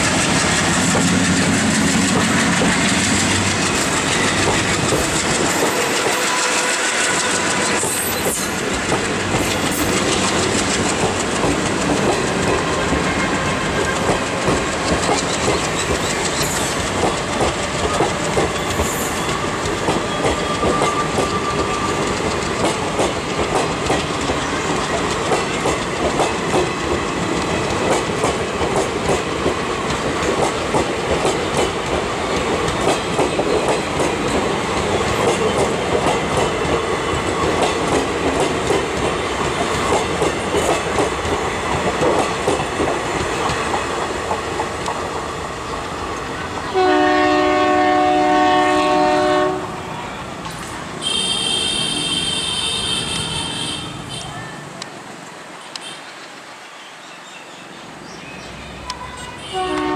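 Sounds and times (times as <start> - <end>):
train wheels clattering over rail joints: 0.0 - 49.4.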